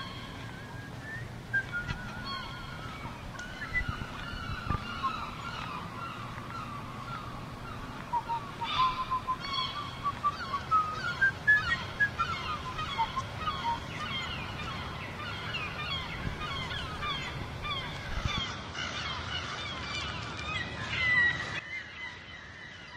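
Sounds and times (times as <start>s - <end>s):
birds calling: 0.0s - 22.9s
steady low background noise: 0.0s - 22.9s.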